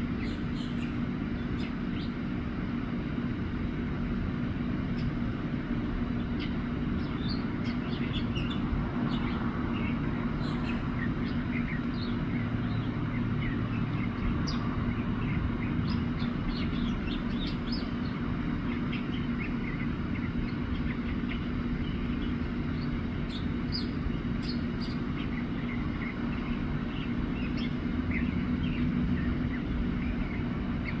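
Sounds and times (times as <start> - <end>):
mockingbird singing: 0.0 - 2.6, 4.9 - 31.0
steady low hum: 0.0 - 31.0.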